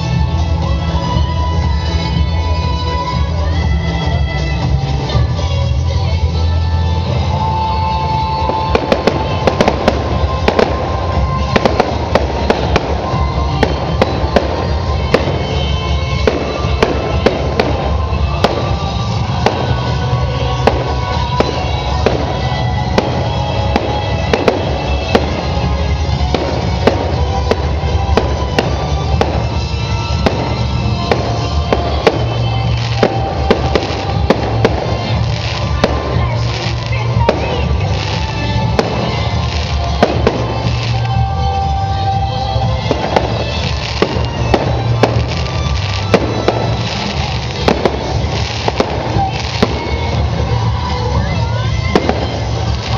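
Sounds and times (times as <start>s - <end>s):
fireworks bangs and crackles: 0.0s - 52.9s
music playing: 0.0s - 52.9s.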